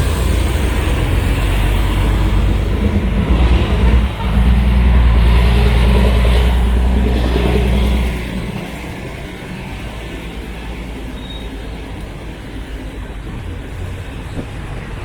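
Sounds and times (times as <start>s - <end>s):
street noise: 0.0s - 15.0s
vehicle engine running: 0.0s - 15.0s.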